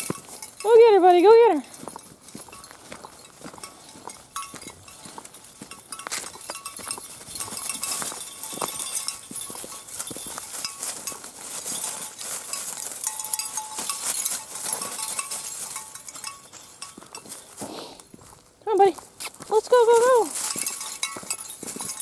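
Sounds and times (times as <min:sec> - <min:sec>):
metal dog tags jingling: 0:00.0 - 0:17.6, 0:18.8 - 0:22.0
footsteps on frozen trail: 0:00.0 - 0:22.0.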